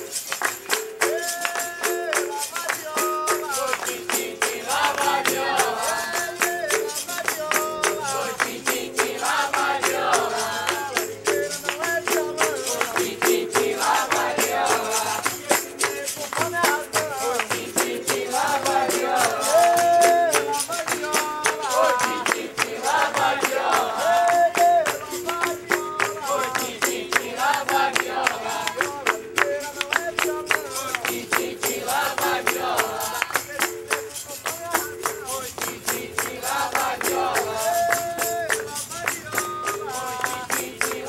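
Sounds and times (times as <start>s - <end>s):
hand clapping: 0.0s - 41.0s
tambourine jingles: 0.0s - 41.0s
group singing: 1.0s - 41.0s.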